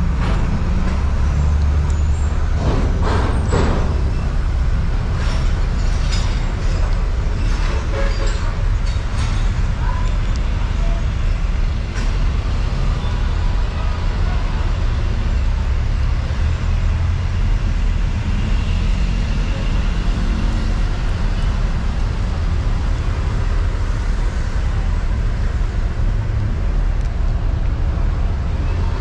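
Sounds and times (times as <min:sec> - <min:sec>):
outdoor background rumble: 0:00.0 - 0:29.0.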